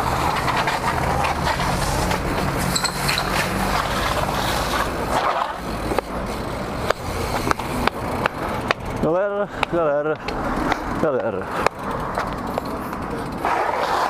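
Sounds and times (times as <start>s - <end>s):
bike tyres rolling on concrete: 0.0s - 14.0s.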